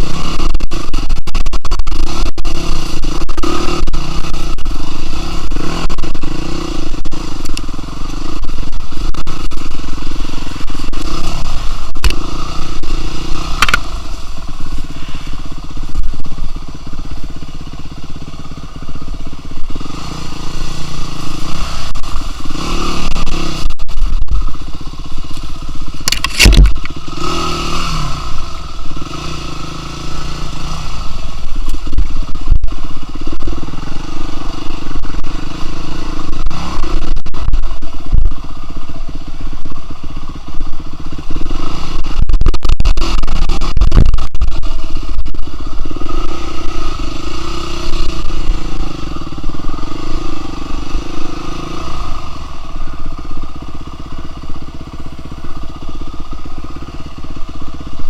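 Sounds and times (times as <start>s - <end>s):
engine running with clatter: 0.0s - 58.0s.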